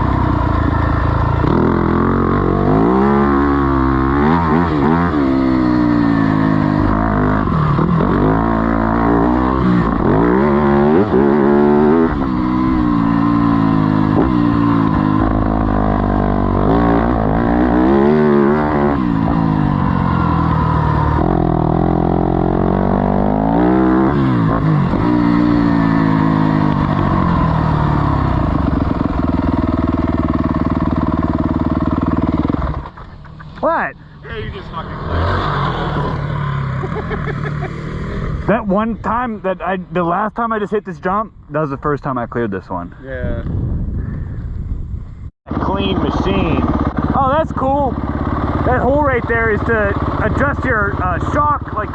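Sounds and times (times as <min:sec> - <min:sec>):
motocross bike engine revving: 0:00.0 - 0:40.8, 0:45.5 - 0:51.9.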